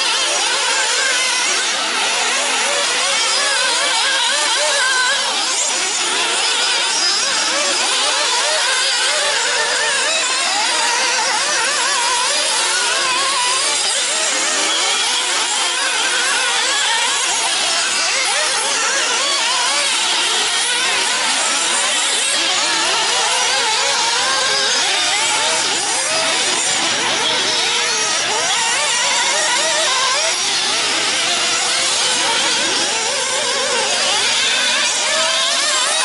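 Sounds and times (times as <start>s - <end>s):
rc car engines whining: 0.0s - 36.0s.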